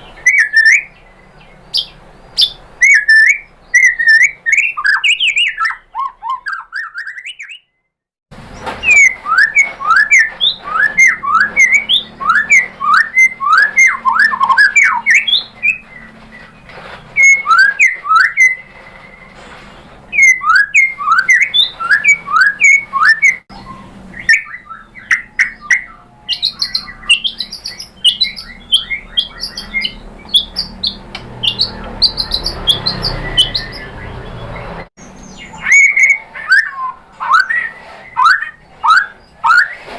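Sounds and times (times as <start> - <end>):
bird singing whistled notes: 0.0 - 7.9, 8.8 - 19.4, 20.1 - 39.8.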